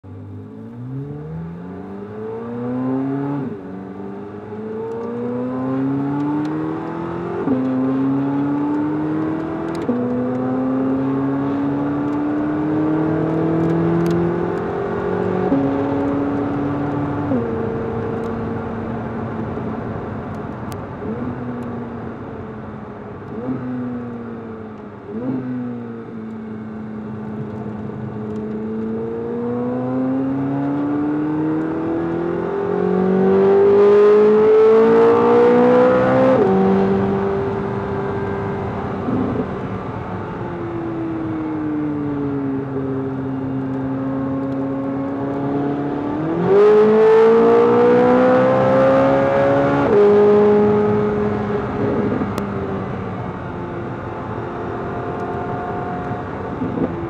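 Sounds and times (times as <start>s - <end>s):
sports car engine accelerating: 0.0s - 57.0s.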